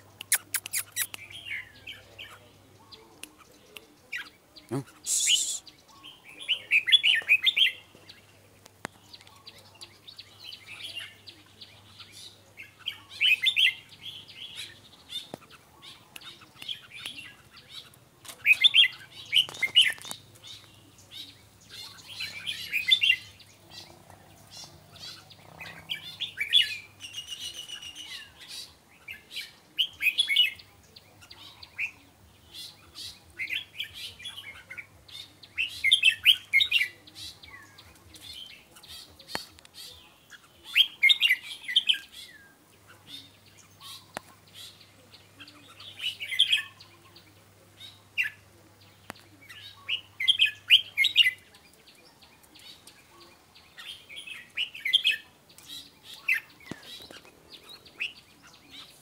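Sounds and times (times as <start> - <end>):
birds singing warbling phrases: 0.0 - 59.0.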